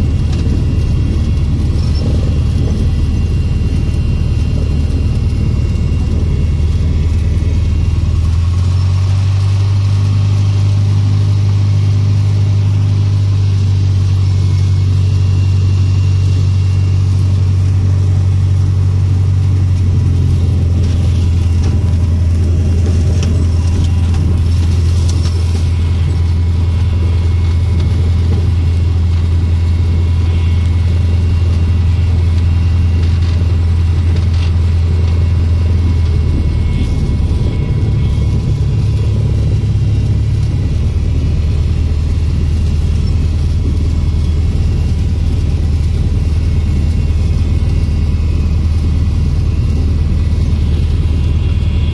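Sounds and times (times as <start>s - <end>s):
aircraft engine drone in cabin: 0.0s - 51.9s.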